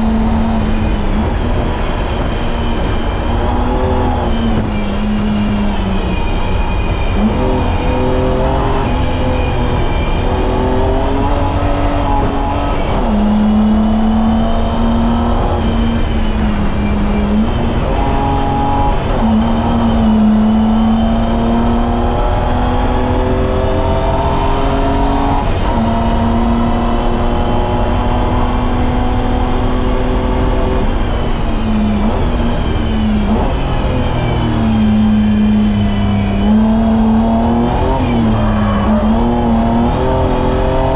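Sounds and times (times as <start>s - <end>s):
car engine revving hard: 0.0s - 40.9s
gear changes: 0.0s - 40.9s.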